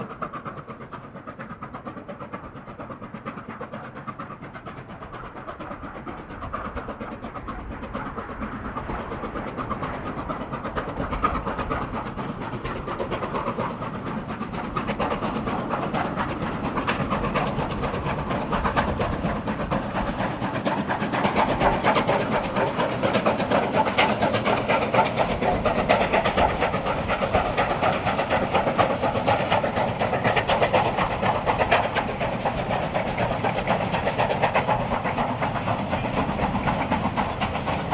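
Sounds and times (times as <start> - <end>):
steam locomotive approaching: 0.0 - 37.9.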